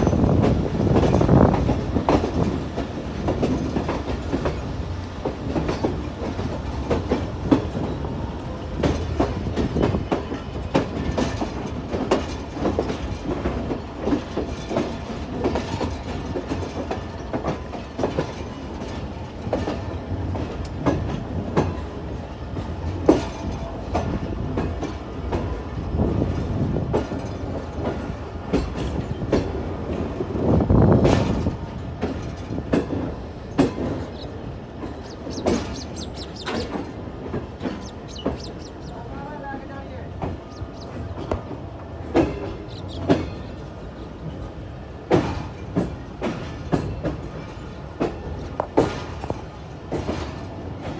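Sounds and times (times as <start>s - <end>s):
train rumble: 0.0s - 50.9s
train wheels clattering: 0.0s - 50.9s.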